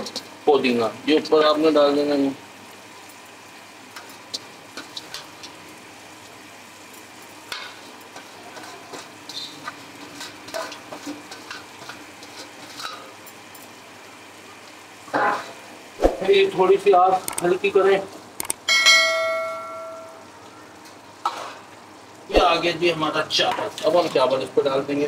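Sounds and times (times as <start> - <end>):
food sizzling in a pot: 0.0 - 25.0.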